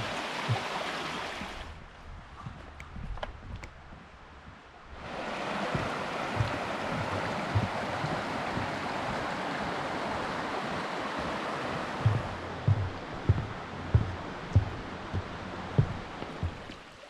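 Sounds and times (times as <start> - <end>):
stream water rushing: 0.0 - 1.8, 4.9 - 17.0
soft low thumps: 1.4 - 16.8.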